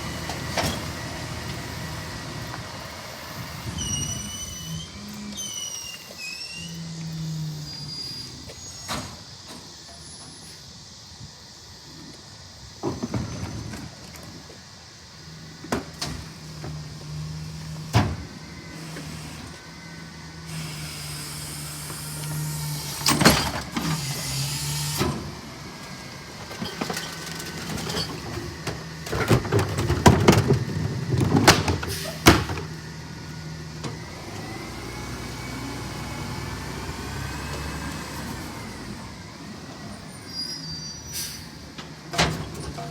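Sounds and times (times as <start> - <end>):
garbage truck engine hum: 0.0 - 11.0, 11.7 - 42.9.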